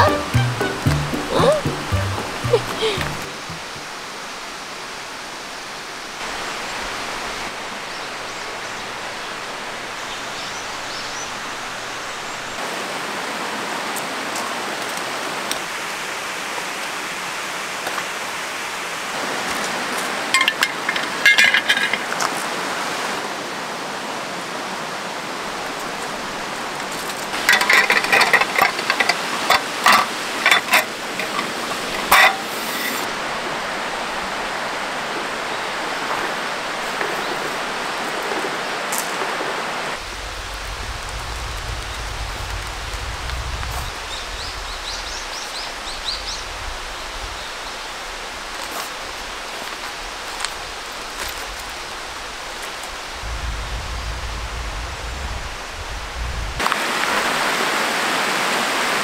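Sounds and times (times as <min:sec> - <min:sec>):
stream running: 0:00.0 - 0:59.0.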